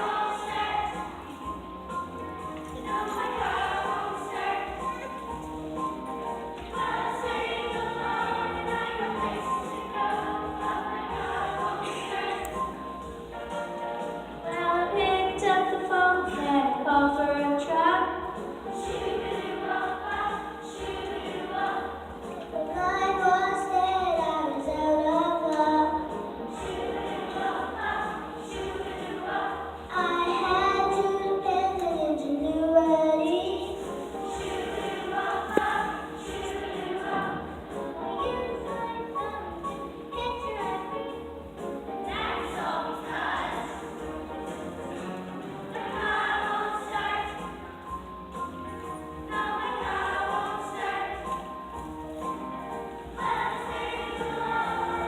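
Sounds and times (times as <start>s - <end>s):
choir singing: 0.0s - 2.0s, 2.7s - 31.8s, 32.4s - 41.3s, 41.9s - 55.0s.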